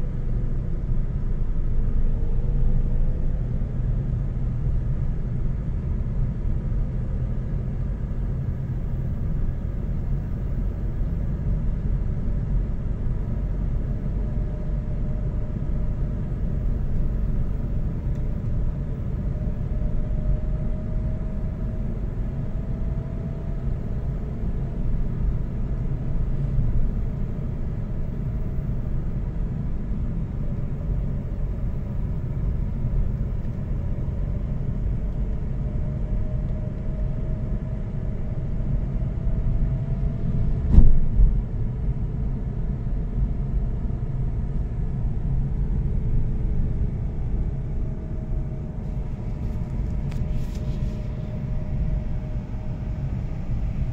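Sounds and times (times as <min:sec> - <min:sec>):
car engine and tyre rumble: 0:00.0 - 0:53.9
faint whine: 0:00.0 - 0:53.9.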